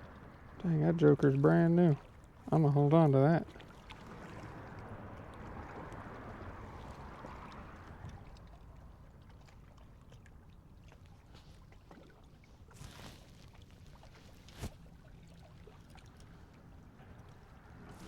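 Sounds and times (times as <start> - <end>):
lake water lapping: 0.0 - 18.0.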